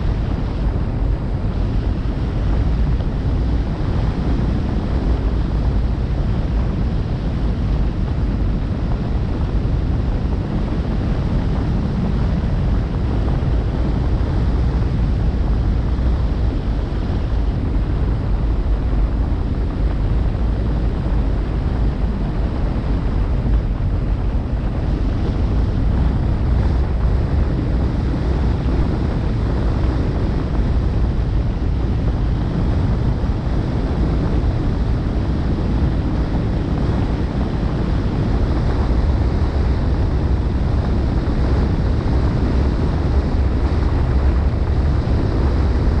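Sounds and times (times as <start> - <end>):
vehicle road rumble: 0.0 - 46.0
wind buffeting microphone: 0.0 - 46.0.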